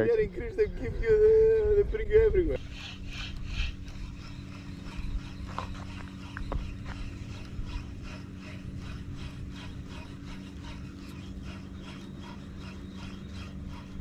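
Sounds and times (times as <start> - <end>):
low steady hum: 0.0 - 14.0
fishing reel cranking: 2.6 - 14.0.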